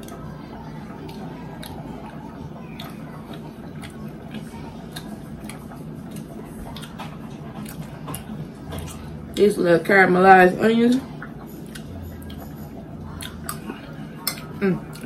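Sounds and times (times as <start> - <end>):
chewing and wet mouth sounds: 0.0 - 9.6, 10.8 - 15.0
steady low hum: 0.0 - 15.0.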